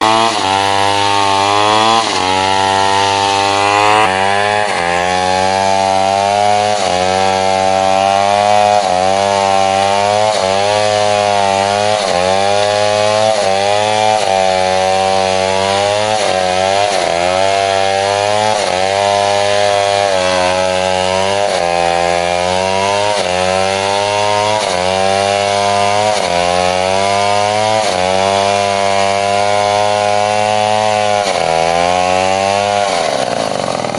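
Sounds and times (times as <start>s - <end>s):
chainsaw cutting into tree: 0.0s - 33.9s.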